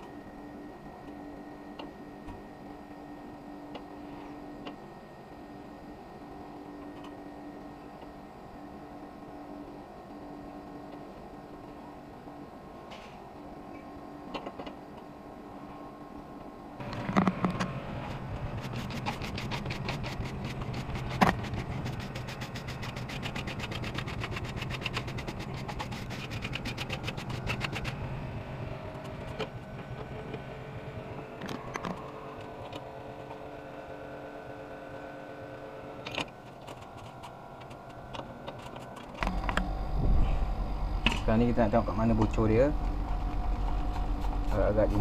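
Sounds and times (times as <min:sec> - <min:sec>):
air conditioner humming: 0:00.0 - 0:45.0.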